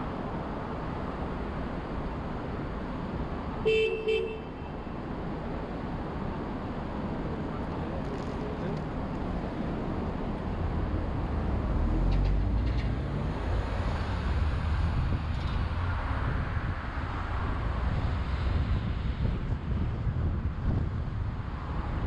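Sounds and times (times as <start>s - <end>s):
car tyre and wind rumble: 0.0s - 22.0s.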